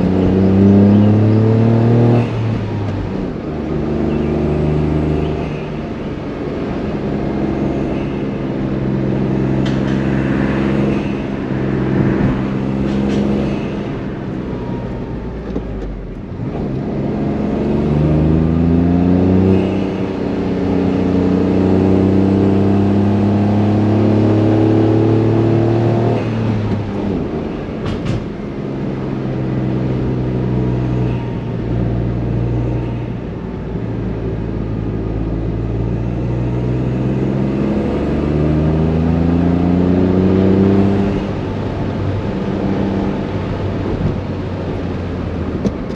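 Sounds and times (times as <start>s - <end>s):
car engine and exhaust revving: 0.0s - 45.9s.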